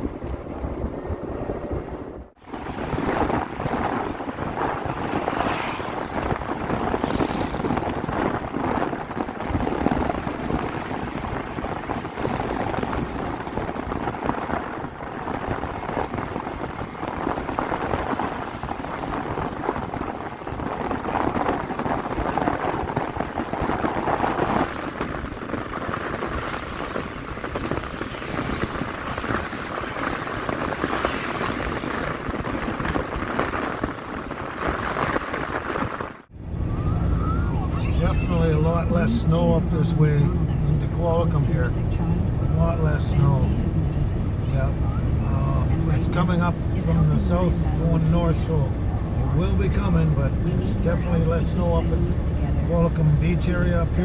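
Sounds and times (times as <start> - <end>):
tyre noise on wet road: 2.4 - 54.0.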